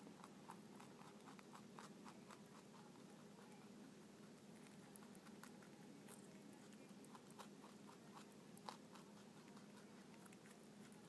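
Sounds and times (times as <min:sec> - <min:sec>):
rabbit crunching vegetables: 0:00.0 - 0:11.0.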